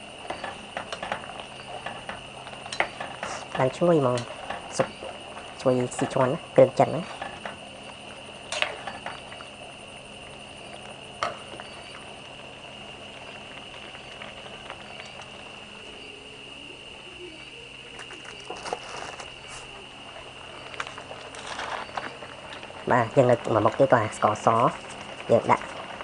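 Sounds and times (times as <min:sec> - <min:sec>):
broth simmering and bubbling: 0:00.0 - 0:26.0.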